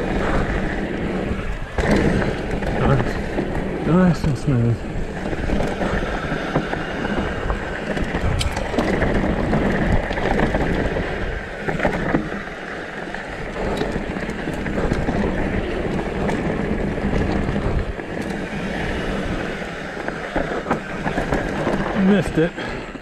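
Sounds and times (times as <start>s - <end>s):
bike clicks and rattles: 0.0s - 23.0s
tyres rolling on dirt and rock: 0.0s - 23.0s
wind rushing over microphone: 0.0s - 23.0s.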